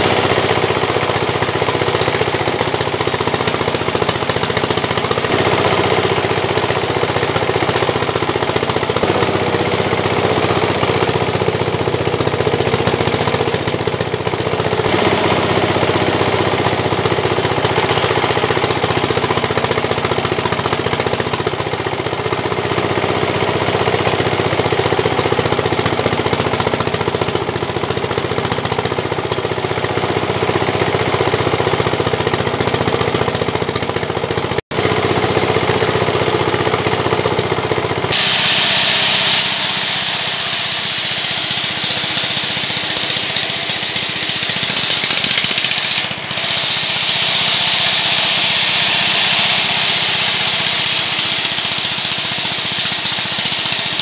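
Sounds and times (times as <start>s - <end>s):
band saw cutting timber: 0.0s - 28.9s, 29.9s - 54.0s.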